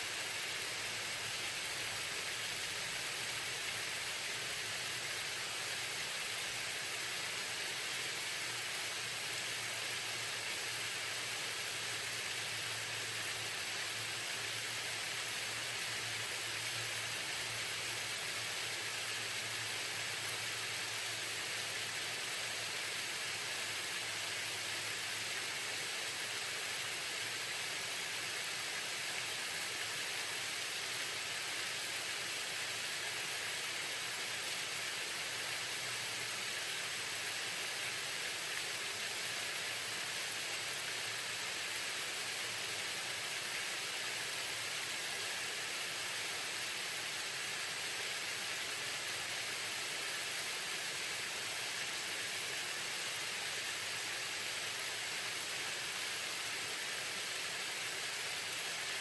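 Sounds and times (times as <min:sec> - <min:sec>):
waterfall splashing: 0:00.0 - 0:59.0.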